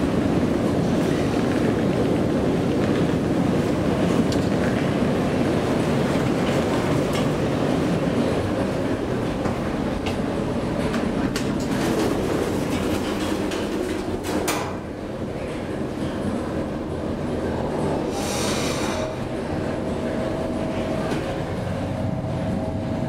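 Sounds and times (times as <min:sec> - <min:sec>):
elevator cab rumbling: 0:00.0 - 0:23.0.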